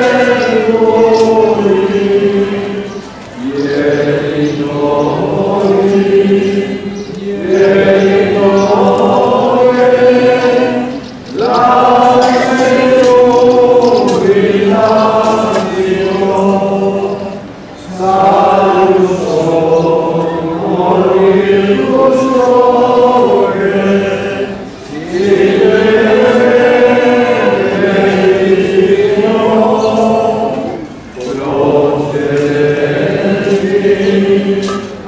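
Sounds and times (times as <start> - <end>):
choir singing a slow hymn: 0.0 - 35.0.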